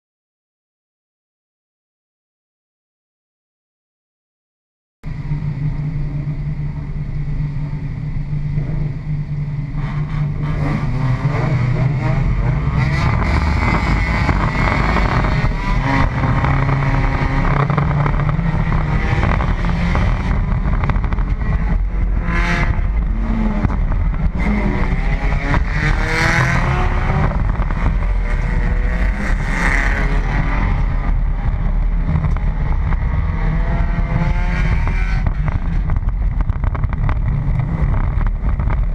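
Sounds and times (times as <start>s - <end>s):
race car engine revving: 5.2s - 38.9s.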